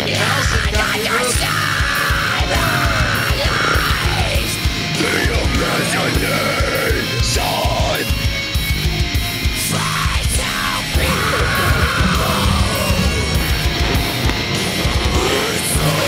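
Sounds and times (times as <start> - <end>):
heavy metal music: 0.0 - 16.0
rapid pounding drum beats: 0.0 - 16.0.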